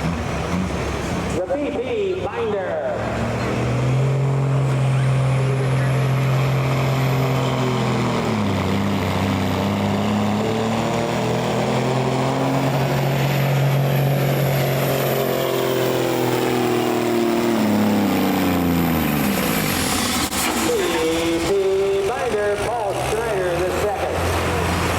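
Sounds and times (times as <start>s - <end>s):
engine running hard under load: 0.0s - 24.9s.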